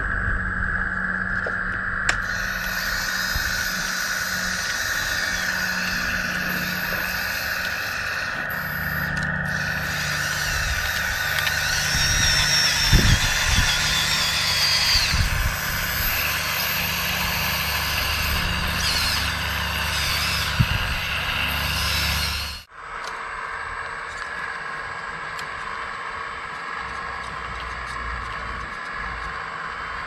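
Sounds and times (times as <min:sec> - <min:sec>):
electric motors and hydraulic pump: 0:00.0 - 0:30.0.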